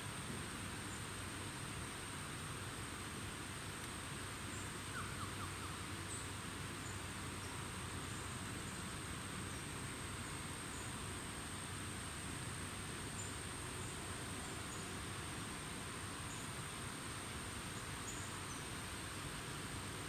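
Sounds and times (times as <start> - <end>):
hiss of outdoor air: 0.0 - 20.0.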